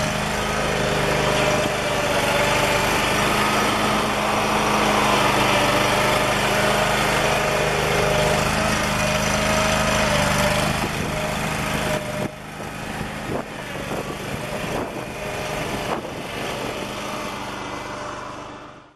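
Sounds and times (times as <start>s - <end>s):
skid steer engine running: 0.0s - 18.9s.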